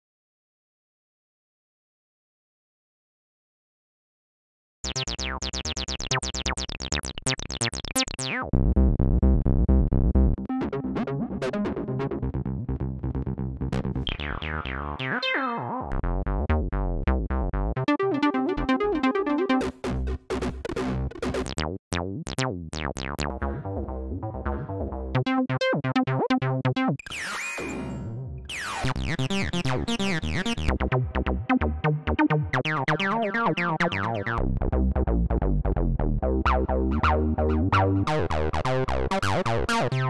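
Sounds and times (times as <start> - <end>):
bass synth pattern: 4.8 - 15.3, 15.9 - 26.9, 28.8 - 40.0.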